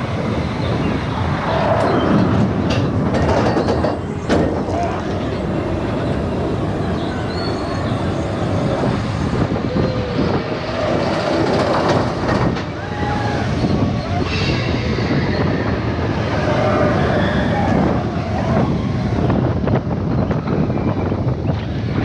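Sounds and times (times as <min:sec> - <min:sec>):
roller coaster rattling rumble: 0:00.0 - 0:22.0.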